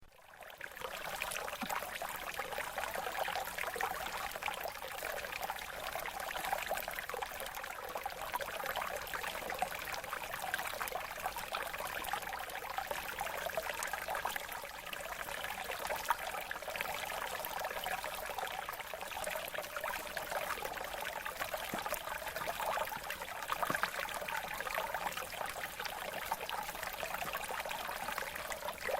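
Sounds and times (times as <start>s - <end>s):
water trickling and splashing: 0.3s - 28.9s.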